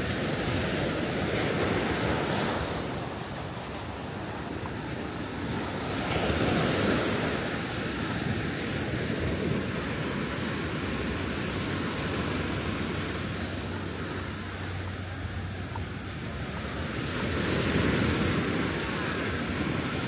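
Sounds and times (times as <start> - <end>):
surf washing onto beach: 0.0 - 20.0.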